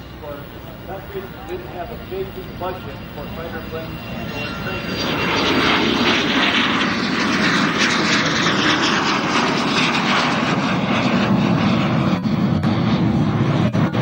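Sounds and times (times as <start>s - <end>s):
jet engines flying past: 0.0s - 14.0s.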